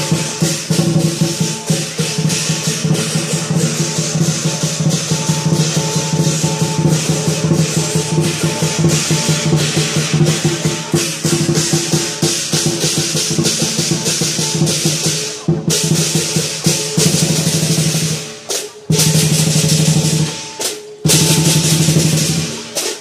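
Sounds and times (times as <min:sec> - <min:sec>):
crashing cymbals: 0:00.0 - 0:23.0
drum beaten fast: 0:00.0 - 0:23.0.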